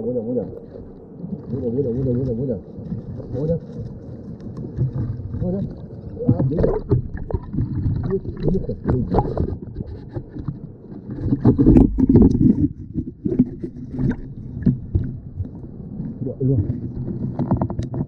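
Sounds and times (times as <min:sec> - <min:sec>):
underwater water sloshing: 0:00.0 - 0:18.0.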